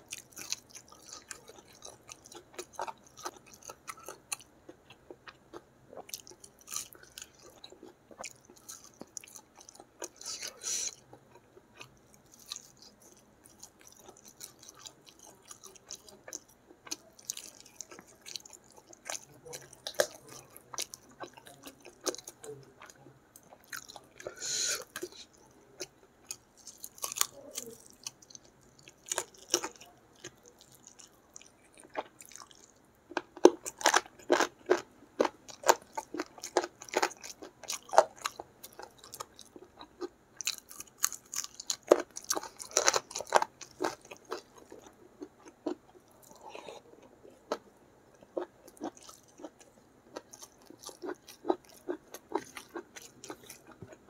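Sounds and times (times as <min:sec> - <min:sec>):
chewing with wet smacks: 0:00.1 - 0:54.0.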